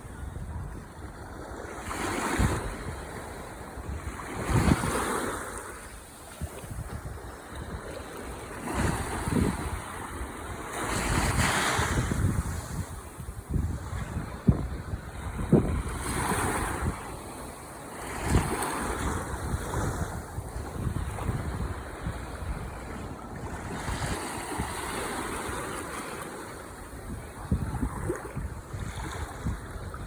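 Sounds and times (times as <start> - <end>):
ocean waves breaking on shore: 0.0 - 30.0
wind rumbling on microphone: 0.0 - 30.0.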